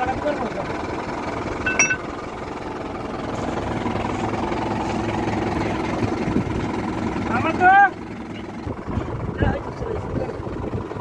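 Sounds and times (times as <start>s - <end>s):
diesel tractor engine idling: 0.0s - 11.0s.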